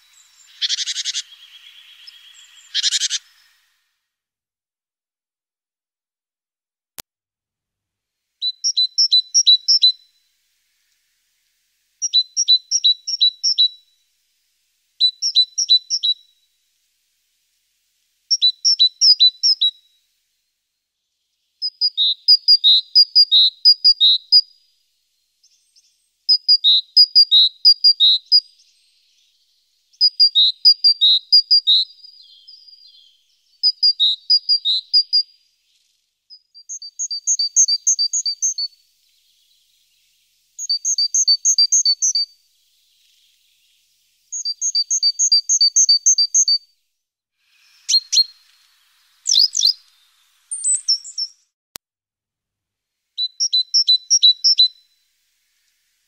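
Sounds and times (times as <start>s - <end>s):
small songbird singing: 0.0s - 3.9s, 8.4s - 46.8s, 47.4s - 51.6s, 53.2s - 56.0s.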